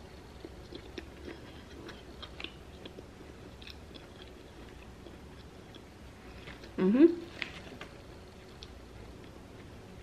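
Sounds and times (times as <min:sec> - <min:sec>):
chewing with soft crunches: 0:00.0 - 0:10.0.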